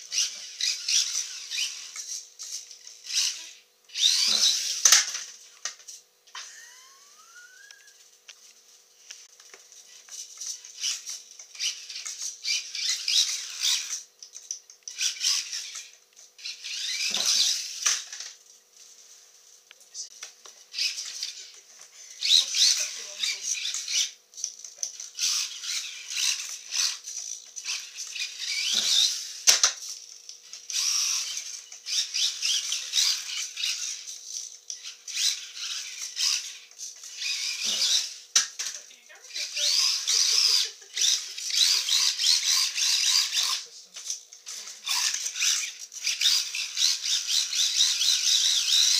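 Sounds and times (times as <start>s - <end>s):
toy truck motor whining: 0.0s - 8.1s, 9.2s - 18.4s, 20.0s - 48.9s.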